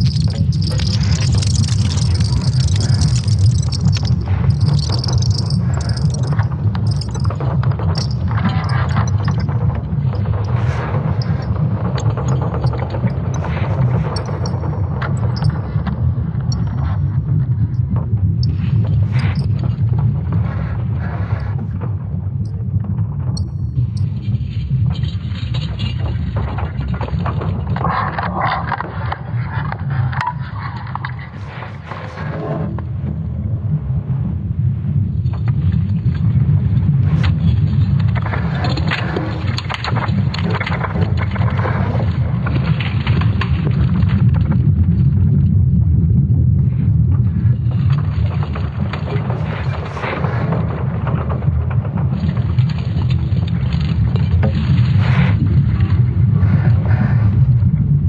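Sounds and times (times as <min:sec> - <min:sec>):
creaking and crackling noise: 0:00.0 - 0:58.0
deep continuous rumble: 0:00.0 - 0:58.0.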